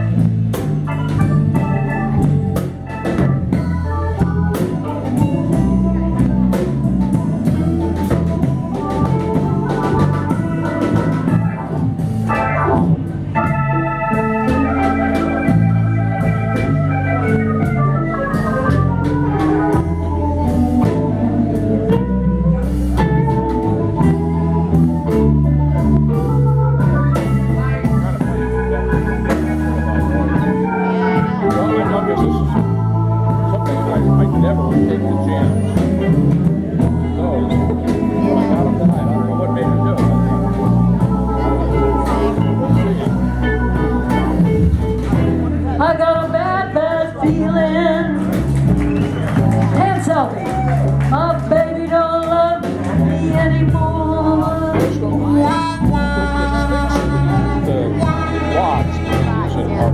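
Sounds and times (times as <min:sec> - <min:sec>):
drums: 0:00.0 - 0:59.9
organ playing: 0:00.0 - 0:59.9.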